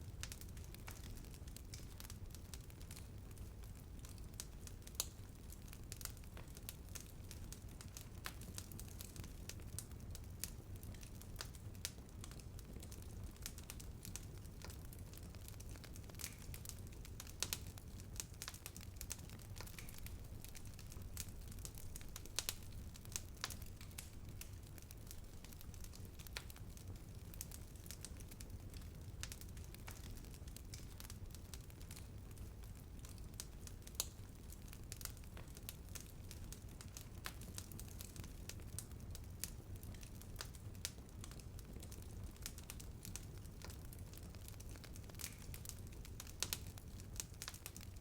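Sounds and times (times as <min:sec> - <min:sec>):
bonfire crackling and popping: 0:00.0 - 0:48.0
low rumble of flames: 0:00.0 - 0:48.0.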